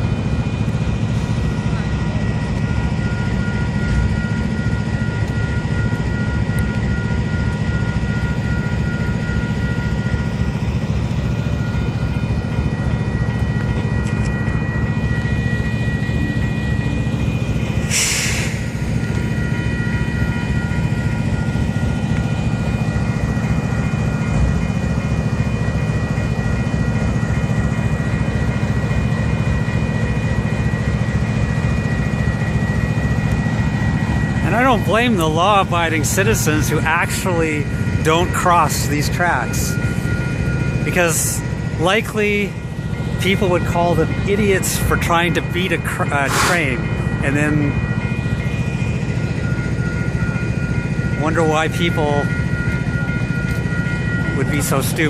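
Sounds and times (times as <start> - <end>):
high ringing tones: 0.0 - 55.0
train rumbling: 0.0 - 55.0.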